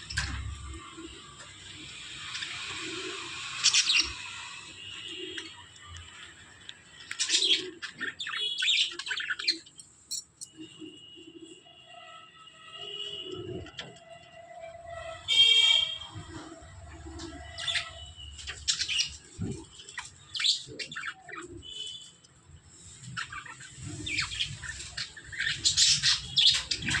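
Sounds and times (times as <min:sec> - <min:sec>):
birds chirping: 0:00.0 - 0:11.8, 0:12.7 - 0:27.0.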